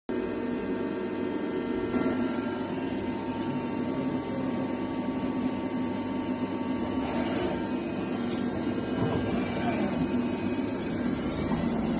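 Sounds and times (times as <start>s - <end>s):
lathe humming and whining: 0.1s - 11.9s.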